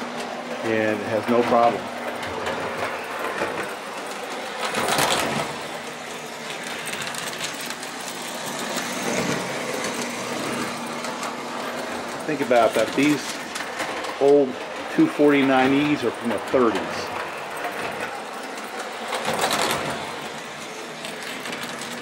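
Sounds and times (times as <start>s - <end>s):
toy train motor whirring: 2.2s - 22.0s.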